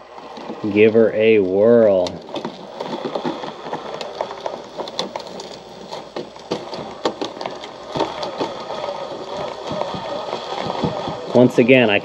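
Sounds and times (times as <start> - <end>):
small electric motor whine: 0.0 - 12.0
toy car clicking against rocks: 0.0 - 12.0.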